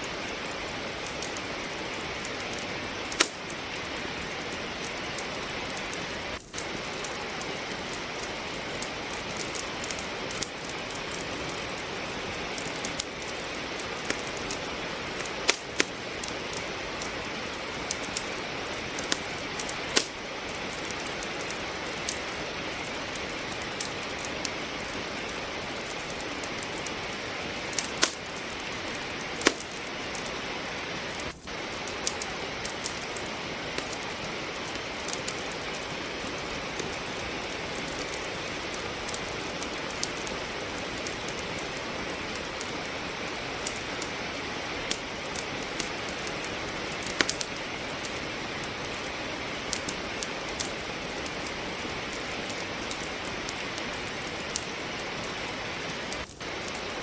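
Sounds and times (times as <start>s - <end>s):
logs crackling in fireplace: 0.0s - 57.0s
steady rain falling: 0.0s - 57.0s.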